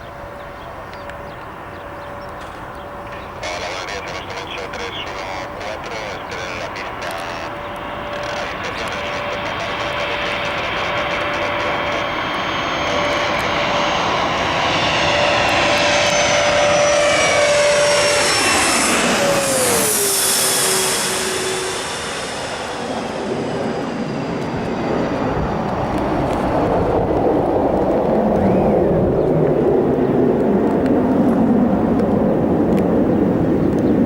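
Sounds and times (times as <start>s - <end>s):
jet engines whining past: 0.0s - 34.0s.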